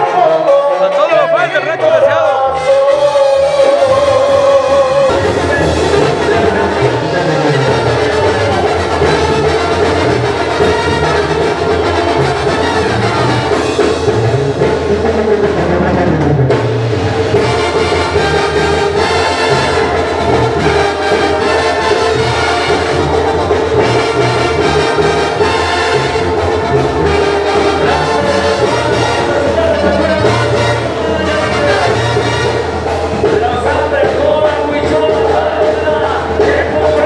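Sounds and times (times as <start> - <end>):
brass band with drums: 0.0 - 37.0.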